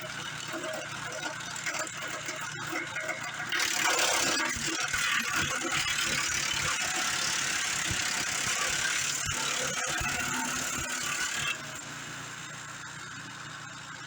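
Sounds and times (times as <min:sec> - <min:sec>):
bandsaw cutting log: 0:00.0 - 0:12.0.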